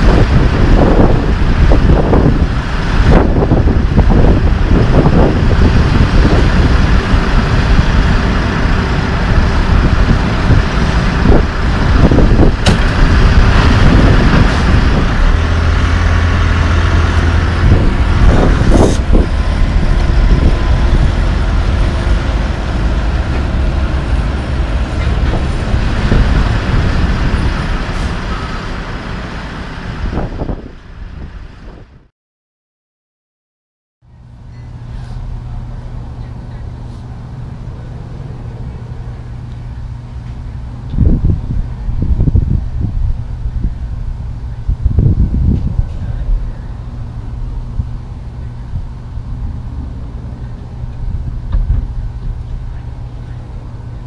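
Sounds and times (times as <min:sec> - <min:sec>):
diesel engine running: 0:00.0 - 0:32.1, 0:34.0 - 0:54.0
passing road traffic: 0:00.0 - 0:32.1, 0:34.0 - 0:54.0.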